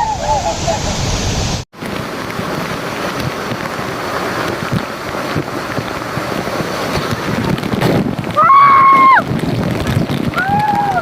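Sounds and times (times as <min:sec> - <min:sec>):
road noise: 0:00.0 - 0:11.0
wind buffeting microphone: 0:00.0 - 0:11.0.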